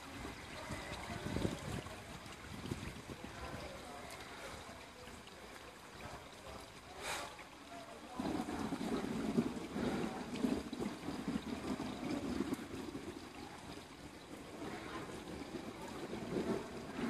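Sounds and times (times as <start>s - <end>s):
heavy rain splashing on pavement: 0.0s - 17.0s.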